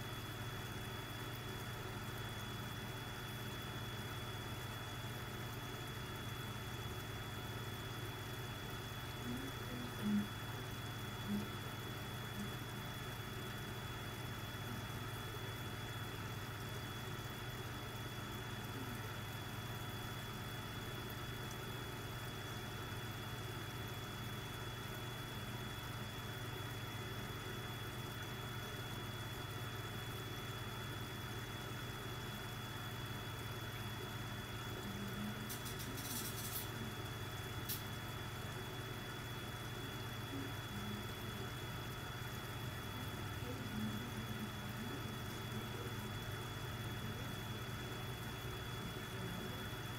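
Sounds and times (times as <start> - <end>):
aquarium equipment humming: 0.0 - 49.9.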